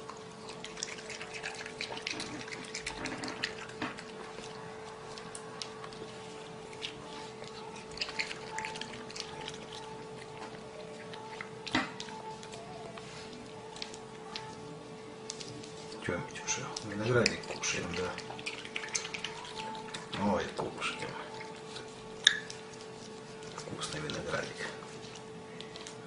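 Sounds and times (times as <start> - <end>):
faint steady hum: 0.0 - 26.0
raccoon chewing: 0.0 - 26.0.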